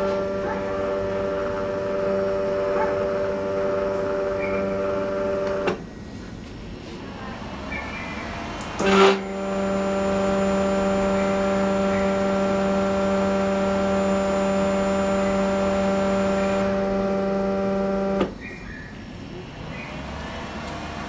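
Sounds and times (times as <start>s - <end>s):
stepper motor humming: 0.0s - 7.8s, 8.8s - 19.0s.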